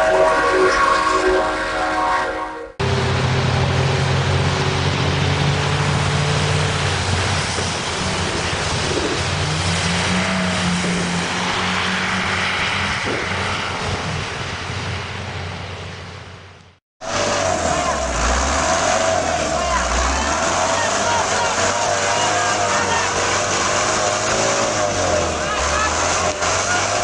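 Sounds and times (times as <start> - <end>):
heavy vehicle engine running: 2.8 - 27.0.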